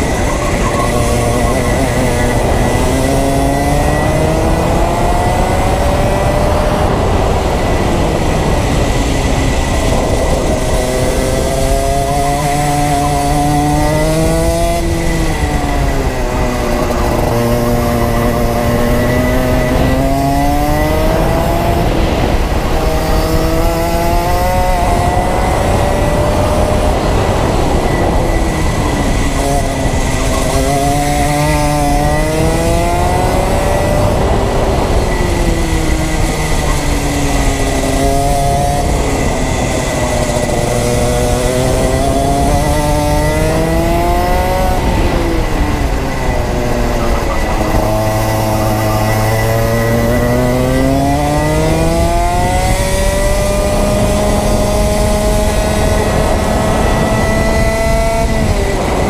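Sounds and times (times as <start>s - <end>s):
kart engine accelerating: 0.0s - 59.0s.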